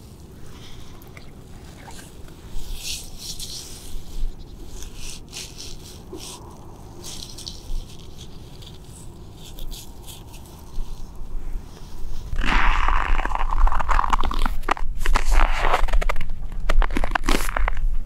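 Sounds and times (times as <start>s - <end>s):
glove scraping tree bark: 0.0s - 17.9s.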